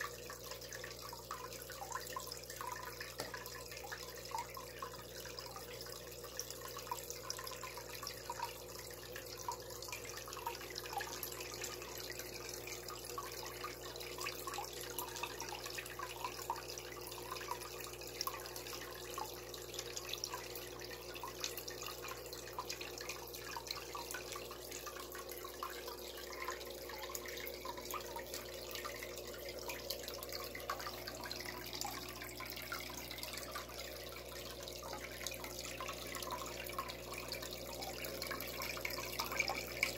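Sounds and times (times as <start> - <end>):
small water drips: 0.0 - 39.9
water splashing and trickling: 0.0 - 39.9.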